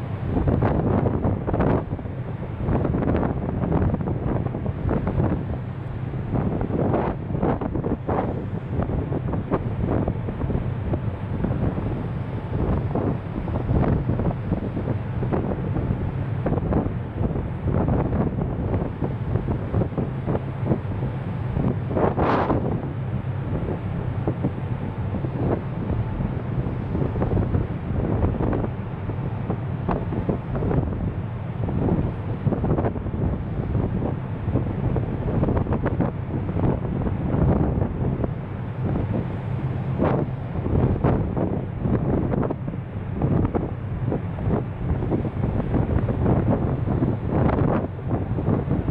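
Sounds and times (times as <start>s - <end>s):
low ship hum: 0.0s - 48.9s
wind buffeting microphone: 0.0s - 48.9s.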